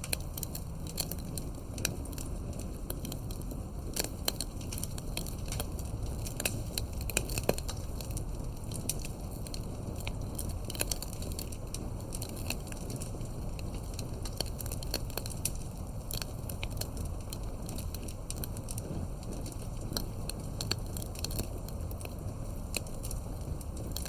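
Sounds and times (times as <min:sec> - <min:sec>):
campfire crackles and pops: 0:00.0 - 0:24.0
low rush of flame: 0:00.0 - 0:24.0.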